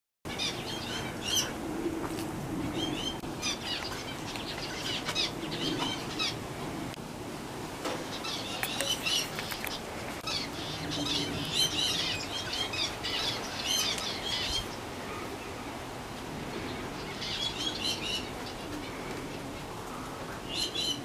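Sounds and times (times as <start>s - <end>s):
birds chirping and calling: 0.3s - 6.9s, 7.8s - 21.0s.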